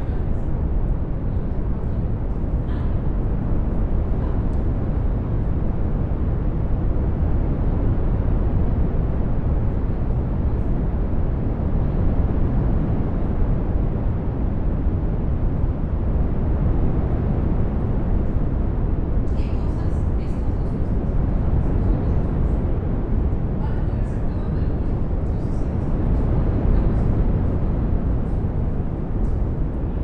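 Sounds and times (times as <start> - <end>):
brown noise hiss: 0.0 - 30.0.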